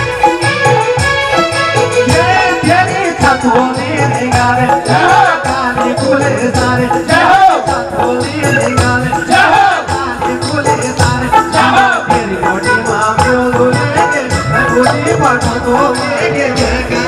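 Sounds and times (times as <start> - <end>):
percussion rhythm with rattling strokes: 0.0 - 17.0.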